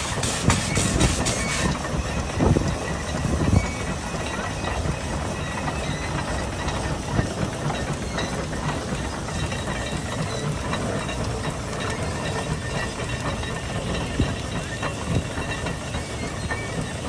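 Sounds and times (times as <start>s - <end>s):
steam engine hissing and rumbling: 0.0s - 17.0s.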